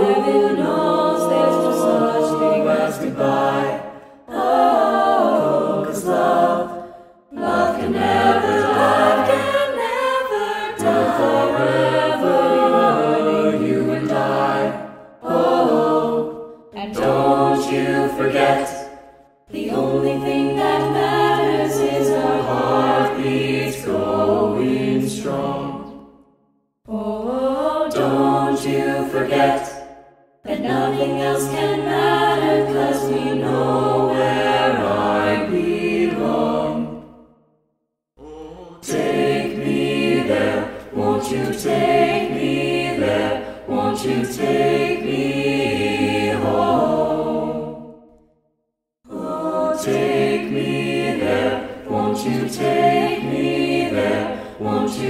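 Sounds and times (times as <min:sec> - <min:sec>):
choir-like singing: 0:00.0 - 0:37.4, 0:38.2 - 0:48.3, 0:49.0 - 0:55.0.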